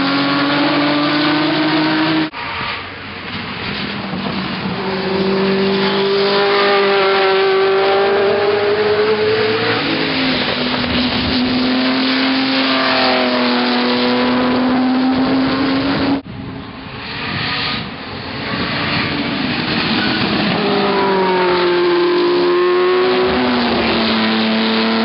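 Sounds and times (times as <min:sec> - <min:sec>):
racing car engine at high revs: 0:00.0 - 0:02.5, 0:04.0 - 0:25.0.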